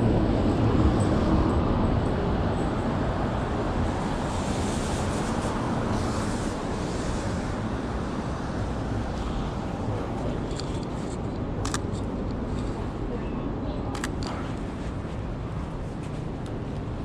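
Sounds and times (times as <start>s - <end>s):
passing street traffic: 0.0s - 17.0s.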